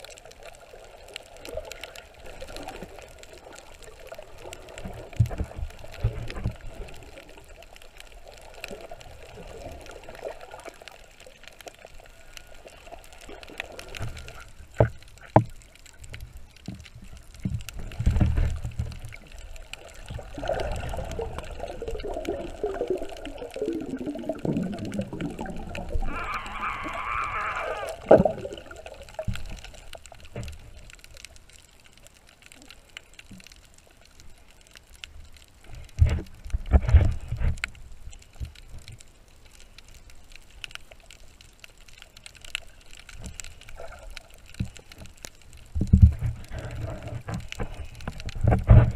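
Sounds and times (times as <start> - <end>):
underwater water sloshing: 0.0 - 48.9.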